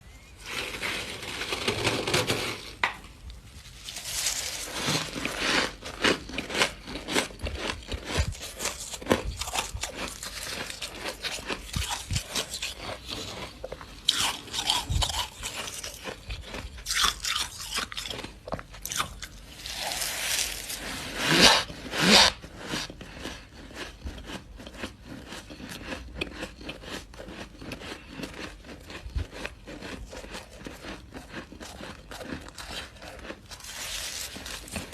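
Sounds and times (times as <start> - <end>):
crunchy chewing of frost: 3.3 - 34.9.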